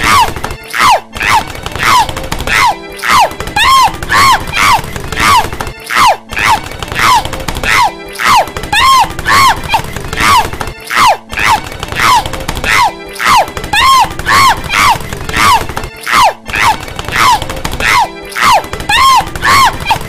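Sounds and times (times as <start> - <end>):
cartoon woman yelping: 0.0 - 20.0.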